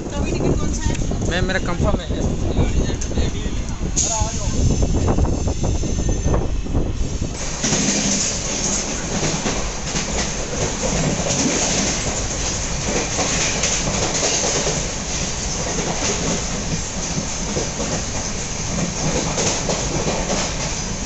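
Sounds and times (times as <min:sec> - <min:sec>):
train rumbling along the track: 0:00.0 - 0:21.0.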